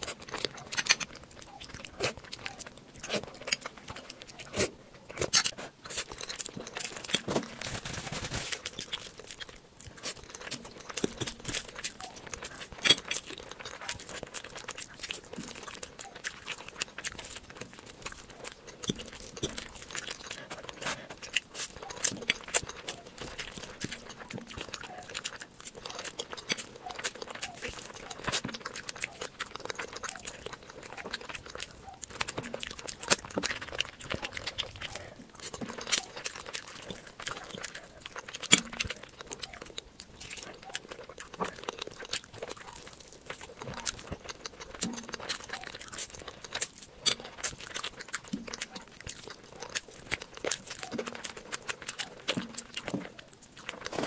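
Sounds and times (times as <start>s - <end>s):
person chewing and smacking: 0.0s - 54.0s.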